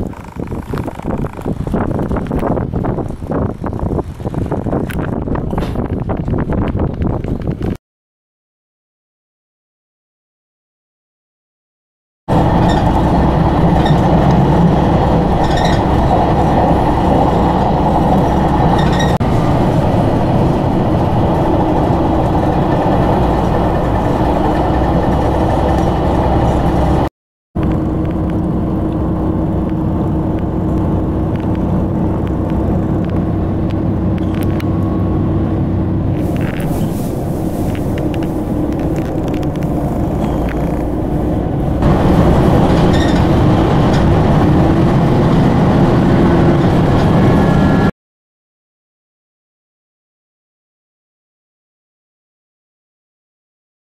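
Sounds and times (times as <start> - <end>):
train wheels rumbling on rail: 0.0 - 7.8, 12.3 - 47.9.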